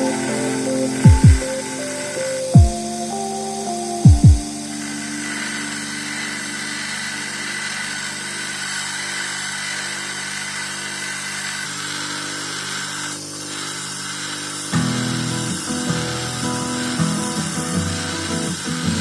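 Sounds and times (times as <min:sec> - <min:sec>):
stone-grinding machine whine: 0:00.0 - 0:19.0.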